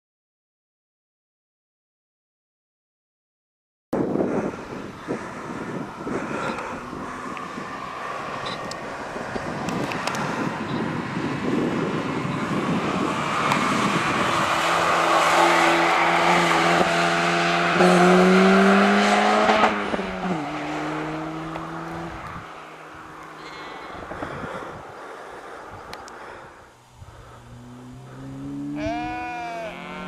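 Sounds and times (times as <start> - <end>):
car engine accelerating hard: 4.4 - 29.0.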